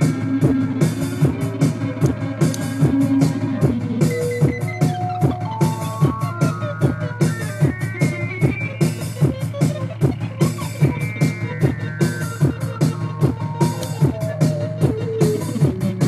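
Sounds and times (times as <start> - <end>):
electronic drum beat: 0.0 - 16.0
stepped synth melody: 0.0 - 16.0.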